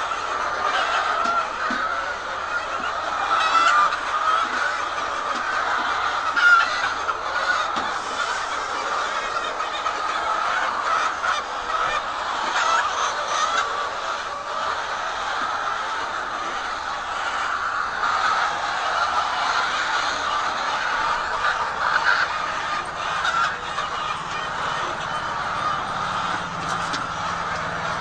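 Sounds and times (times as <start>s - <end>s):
hens clucking: 0.0s - 28.0s.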